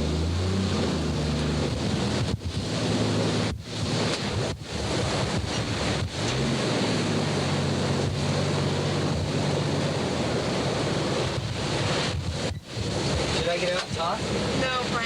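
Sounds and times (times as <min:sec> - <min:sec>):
heavy surf: 0:00.0 - 0:15.0
vehicle engine humming: 0:00.0 - 0:15.0
wind buffeting microphone: 0:00.0 - 0:15.0.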